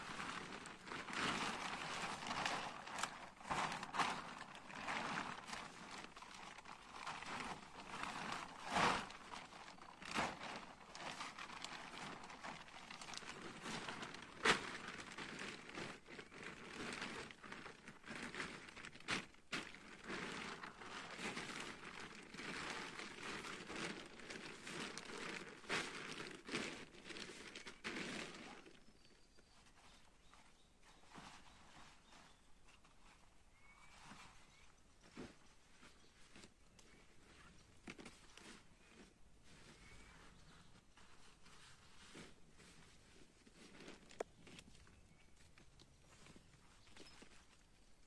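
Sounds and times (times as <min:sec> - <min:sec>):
plastic tarp crinkling: 0:00.0 - 0:48.0.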